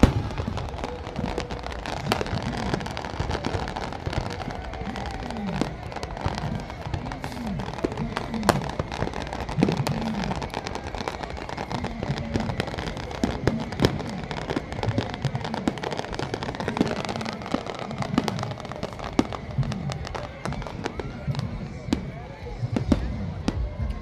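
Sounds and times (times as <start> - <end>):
fireworks bangs and crackling: 0.0 - 24.0
steady background din: 0.0 - 24.0.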